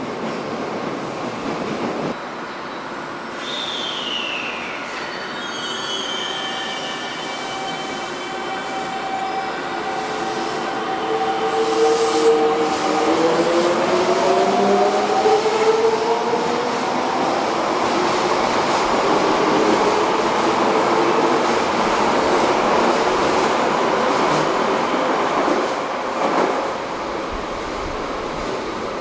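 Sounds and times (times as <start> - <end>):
subway train inverter whine: 0.0 - 29.0.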